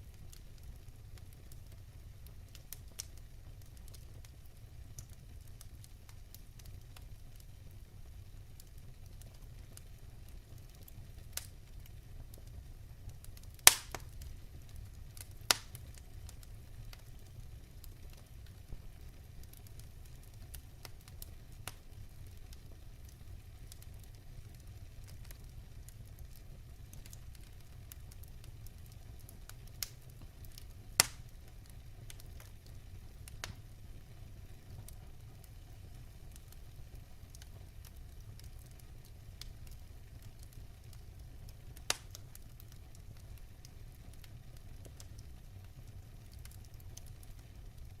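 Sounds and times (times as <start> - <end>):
wood fire crackling and popping: 0.0 - 48.0.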